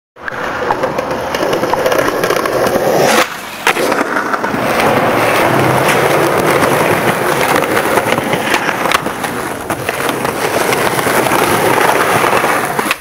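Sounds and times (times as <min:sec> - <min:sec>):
sharp skateboard clack: 0:00.2 - 0:13.0
skateboard wheels rolling on concrete: 0:00.2 - 0:13.0.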